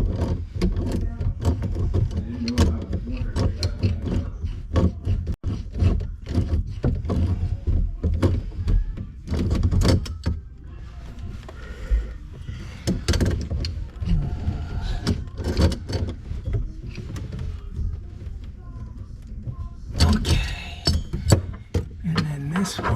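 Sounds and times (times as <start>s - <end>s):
hoses and fittings knocking and scraping: 0.0s - 22.9s.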